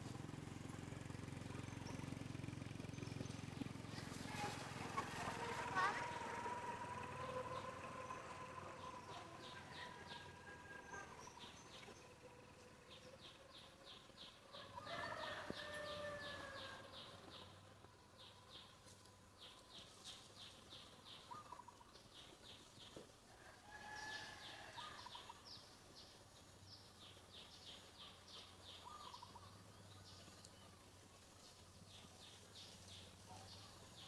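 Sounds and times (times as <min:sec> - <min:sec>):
birds chirping: 0:01.0 - 0:23.1, 0:24.0 - 0:34.0.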